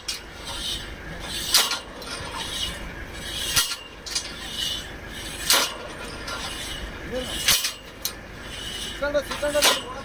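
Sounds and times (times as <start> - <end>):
metal scraping: 0.0 - 10.0.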